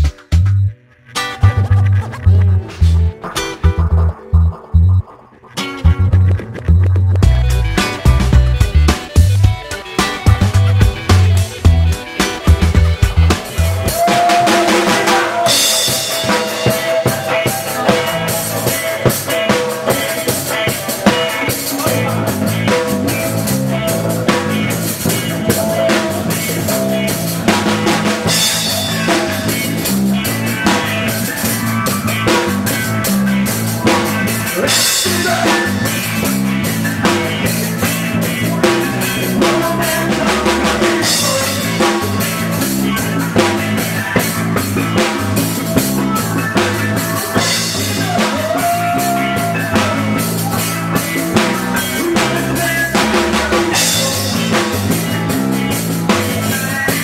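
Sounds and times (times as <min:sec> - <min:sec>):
drum kit: 0:00.0 - 0:57.0
electric bass line: 0:00.0 - 0:57.0
reggae band playing: 0:00.0 - 0:57.0.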